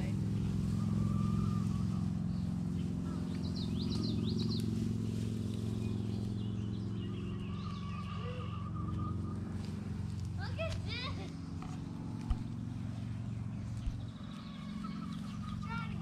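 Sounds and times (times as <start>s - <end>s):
birds chirping: 0.0s - 16.0s
low motor hum: 0.0s - 16.0s.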